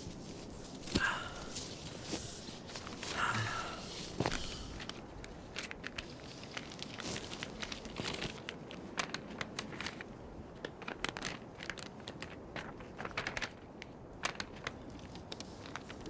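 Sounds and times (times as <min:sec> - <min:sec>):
paper map rustling and crinkling: 0:00.0 - 0:16.0.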